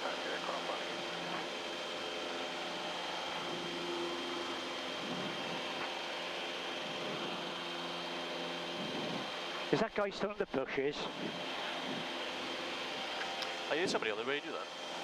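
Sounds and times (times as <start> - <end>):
airplane engine and propeller: 0.0 - 15.0.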